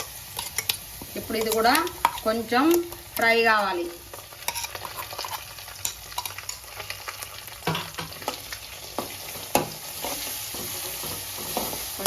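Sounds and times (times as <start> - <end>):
spoon scraping and knocking pan: 0.0 - 3.3, 4.1 - 12.0
paste sizzling in oil: 0.0 - 12.0.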